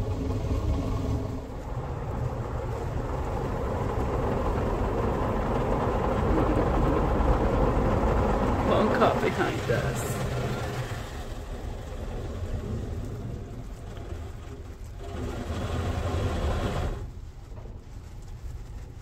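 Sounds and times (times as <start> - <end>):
low rumble: 0.0 - 19.0
water jets spraying on car: 0.0 - 19.0.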